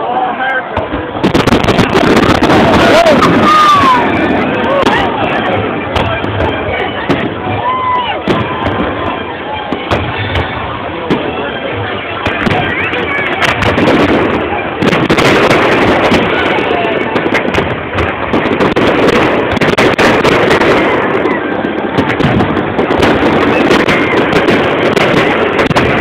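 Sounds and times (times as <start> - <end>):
fireworks barrage of bangs: 0.7 - 26.0.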